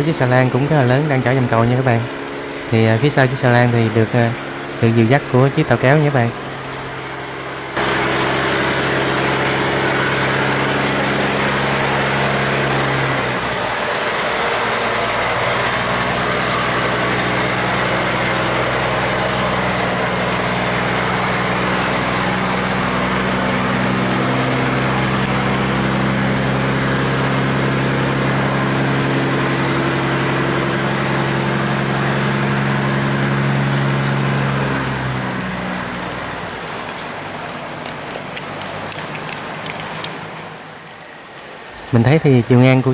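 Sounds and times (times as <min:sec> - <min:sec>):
boat diesel engine humming: 0:00.0 - 0:42.9.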